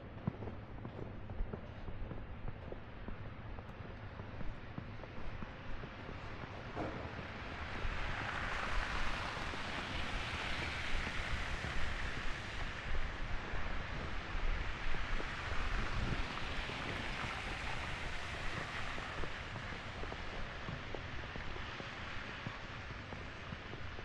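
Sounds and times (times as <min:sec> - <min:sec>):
wind and blowing snow hiss: 0:00.0 - 0:24.0.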